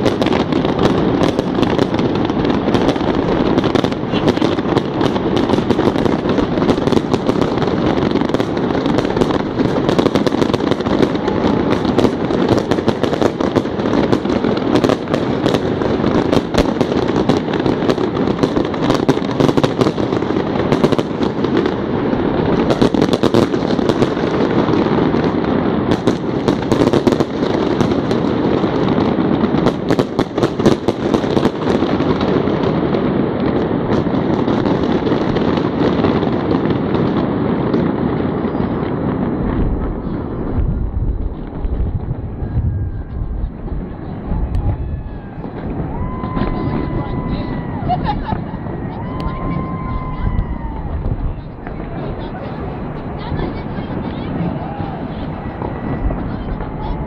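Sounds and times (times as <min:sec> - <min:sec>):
fireworks cracking and popping: 0:00.0 - 0:57.0
rumble of firework bursts: 0:00.0 - 0:57.0.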